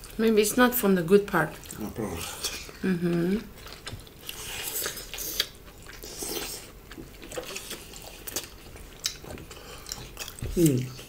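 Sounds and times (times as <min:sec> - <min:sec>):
wet chewing and lip smacking: 0:01.5 - 0:11.0.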